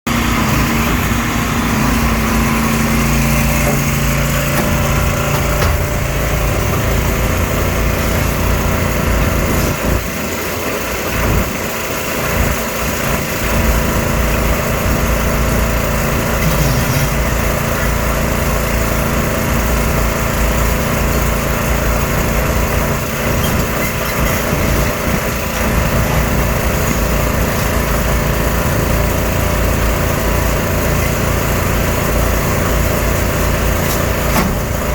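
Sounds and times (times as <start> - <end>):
excavator diesel engine under load: 0.1 - 34.9.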